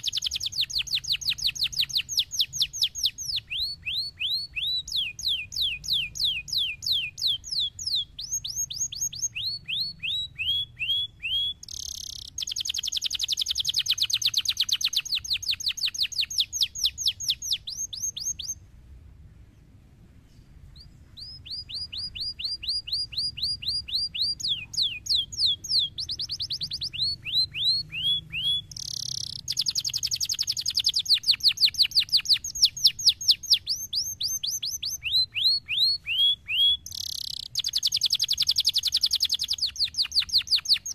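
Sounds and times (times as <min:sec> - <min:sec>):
canary singing trills: 0:00.0 - 0:18.7, 0:20.3 - 0:40.9.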